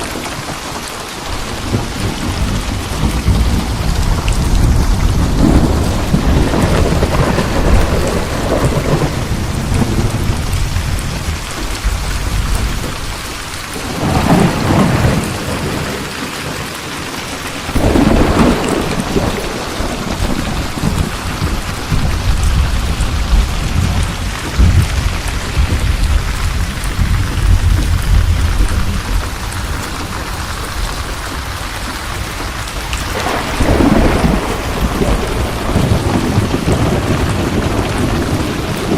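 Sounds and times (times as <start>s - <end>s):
steady rain: 0.0s - 38.9s
thunder rumbling: 0.0s - 38.9s.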